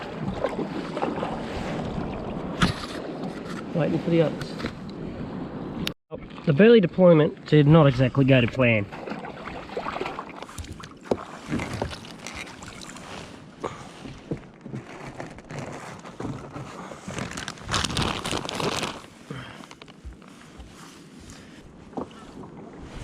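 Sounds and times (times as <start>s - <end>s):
water lapping against kayak: 0.0s - 23.0s.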